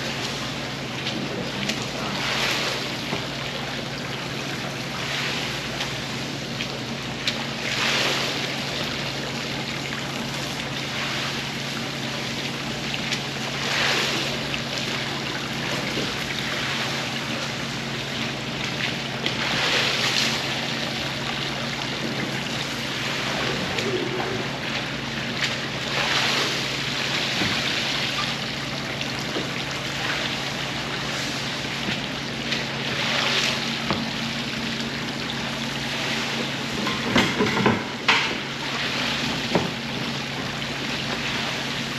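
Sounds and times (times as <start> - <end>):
rushing hissing water: 0.0 - 41.9
steady machine hum: 0.0 - 41.9.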